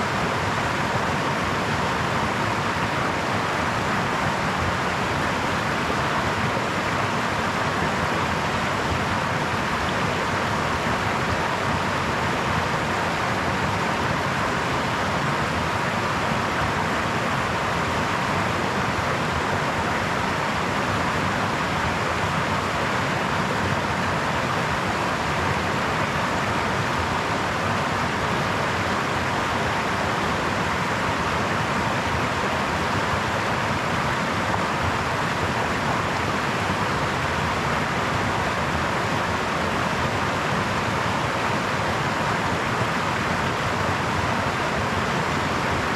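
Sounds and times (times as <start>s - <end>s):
brook water babbling over stones: 0.0s - 45.9s.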